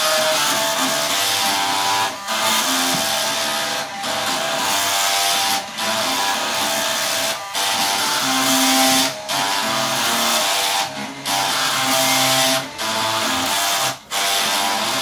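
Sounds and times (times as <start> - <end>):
floppy drives buzzing melody: 0.0 - 15.0.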